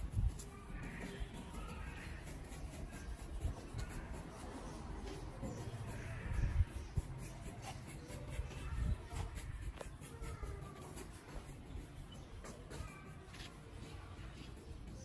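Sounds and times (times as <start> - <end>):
paintbrush scrubbing on wall: 0.0 - 15.0.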